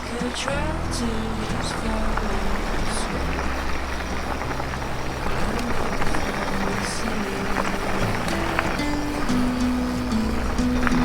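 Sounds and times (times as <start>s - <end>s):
background music with bass notes: 0.0s - 11.0s
bike trail rattle: 0.0s - 11.0s
wind rushing: 0.0s - 11.0s.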